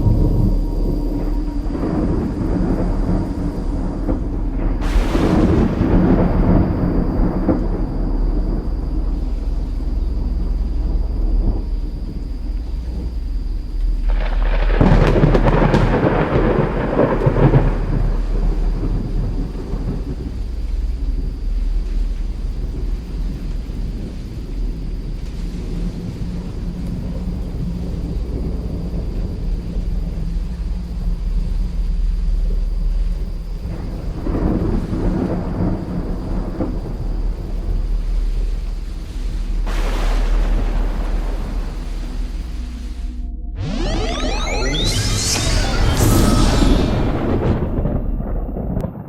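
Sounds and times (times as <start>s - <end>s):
steady rain: 0.0s - 45.9s
thunder crack and rumble: 0.0s - 49.0s.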